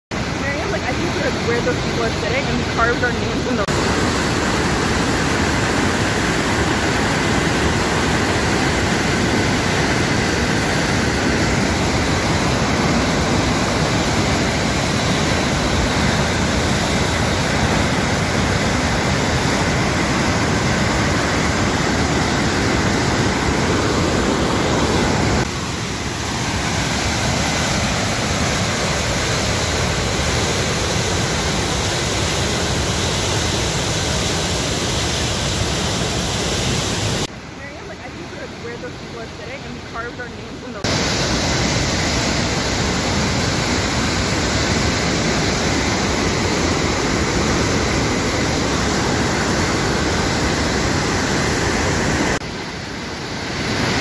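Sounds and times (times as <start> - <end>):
whitewater rushing through dam gates: 0.2 - 37.2, 37.8 - 54.0.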